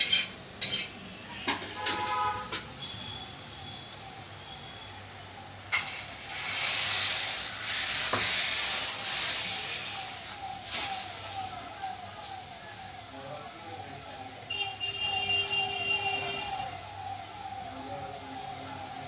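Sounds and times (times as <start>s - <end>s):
batter sizzling on hot pan: 0.0s - 19.0s.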